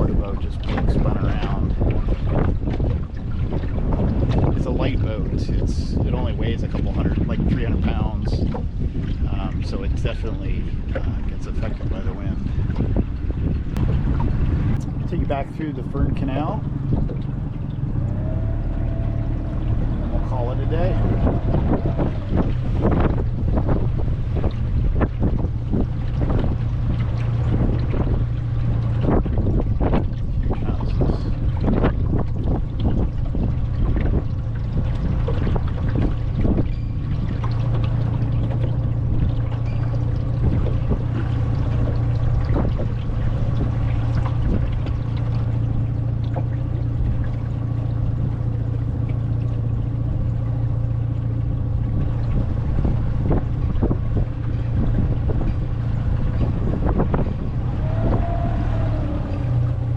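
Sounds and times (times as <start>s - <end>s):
small boat engine running: 0.0s - 59.9s.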